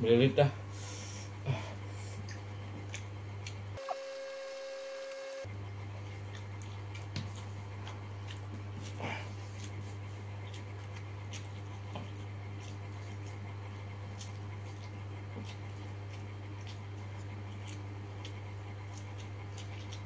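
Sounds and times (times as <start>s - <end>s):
steady low hum: 0.0s - 20.0s
wet eating sounds: 1.5s - 3.7s, 5.7s - 20.0s.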